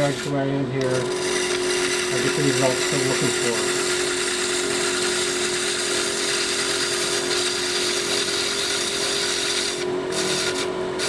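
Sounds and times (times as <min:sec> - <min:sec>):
hiss of gouge cutting wood: 0:00.0 - 0:11.0
lathe motor humming: 0:00.0 - 0:11.0.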